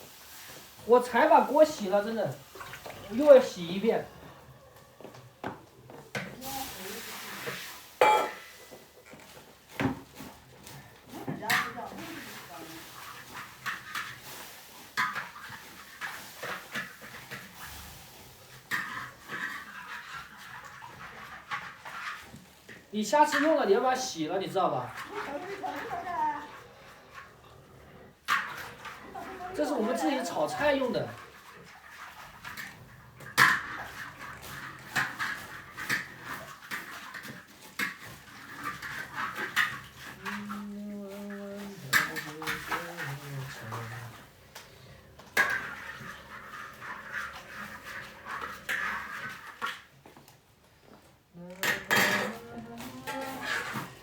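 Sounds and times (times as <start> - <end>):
wok being scrubbed: 0.0 - 5.4, 6.0 - 50.0, 51.9 - 54.0.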